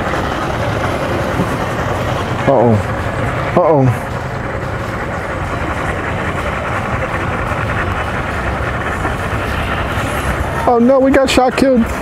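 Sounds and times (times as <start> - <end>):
boat engines humming: 0.0 - 12.0.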